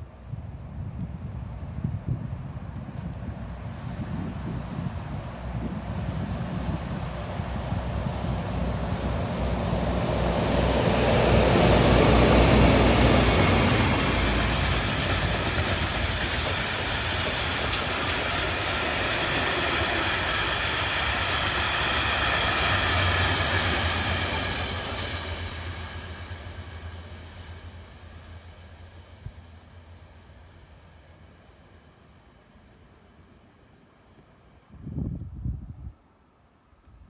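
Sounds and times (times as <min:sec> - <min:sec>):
train rumbling on track: 0:00.0 - 0:35.8
wheels rushing on rails: 0:00.2 - 0:35.2.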